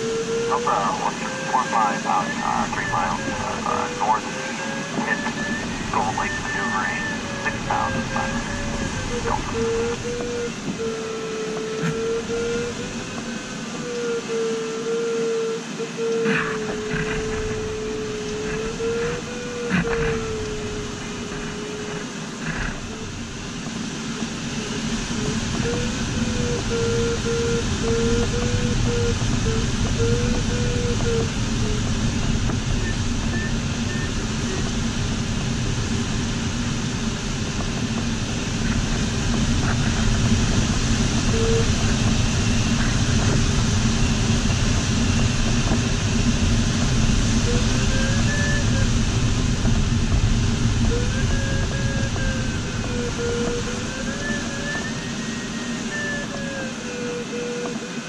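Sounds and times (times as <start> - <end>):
electronic variometer tone: 0.0 - 23.2, 24.5 - 35.2, 39.7 - 58.0
rush of air in cockpit: 0.0 - 58.0.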